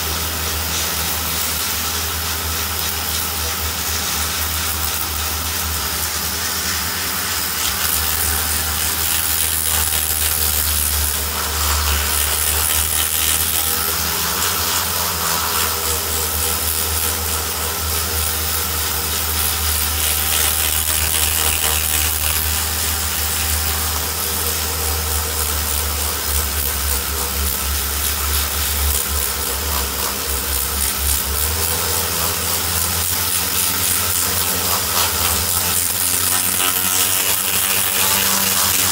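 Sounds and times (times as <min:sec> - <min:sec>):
rotary tool motor hum: 0:00.0 - 0:38.9.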